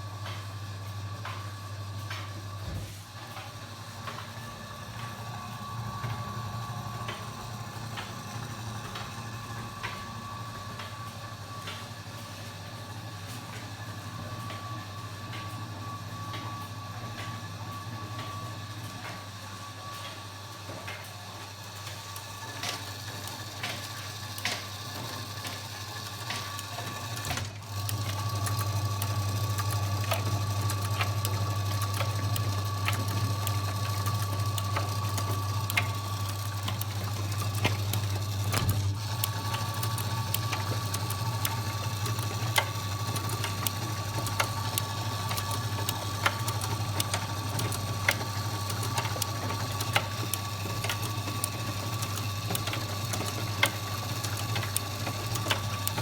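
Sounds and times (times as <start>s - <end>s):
washing machine motor hum: 0.0s - 56.0s.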